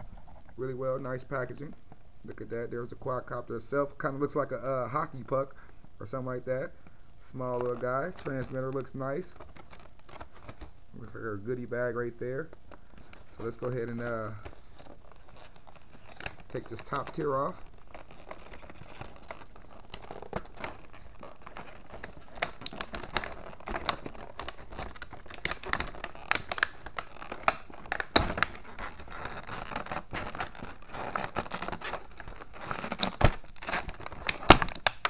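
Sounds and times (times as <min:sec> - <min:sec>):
plastic packaging crinkling: 0:06.8 - 0:35.0.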